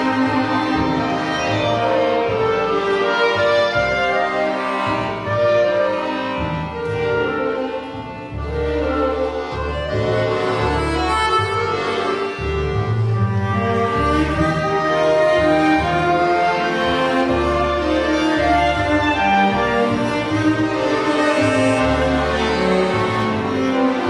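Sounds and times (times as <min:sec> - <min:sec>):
low bass line: 0:00.0 - 0:24.0
solo cello: 0:00.0 - 0:24.0
string ensemble: 0:00.0 - 0:24.0.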